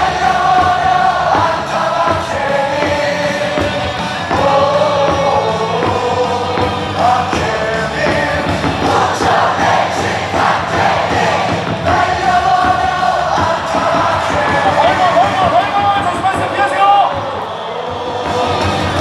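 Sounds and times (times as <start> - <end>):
crowd singing a cheer song: 0.0 - 19.0
loud amplified music: 0.0 - 19.0.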